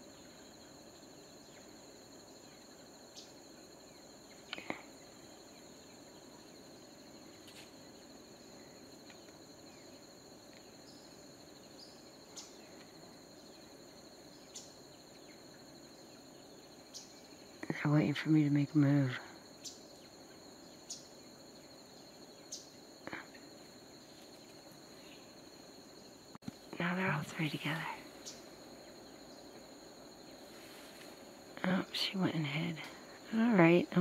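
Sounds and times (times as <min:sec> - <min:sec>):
high-pitched insect drone: 0:00.0 - 0:34.0
low hiss: 0:00.0 - 0:34.0.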